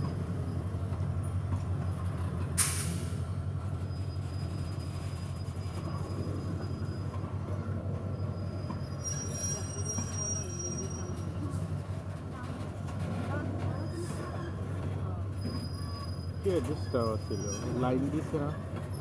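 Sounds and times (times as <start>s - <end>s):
freight train wagons rumbling: 0.0s - 19.0s
train wheel squeal: 0.0s - 19.0s.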